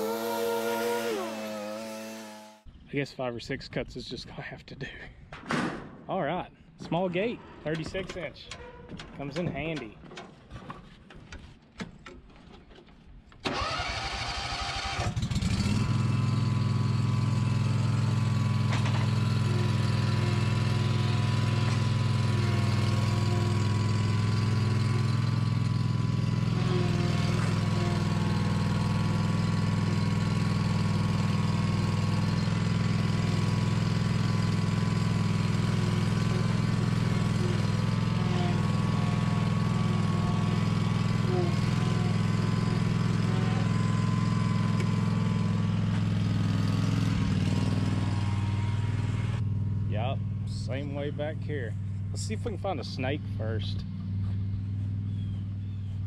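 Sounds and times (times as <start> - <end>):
mower engine cranking and running: 0.0 - 2.3, 7.0 - 55.3.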